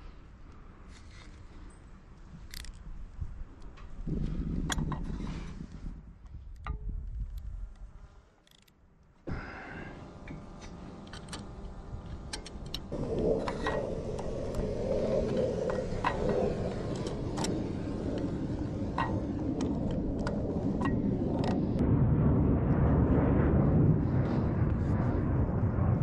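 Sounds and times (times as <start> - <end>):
wind rushing on microphone: 2.3 - 8.2, 10.1 - 26.0.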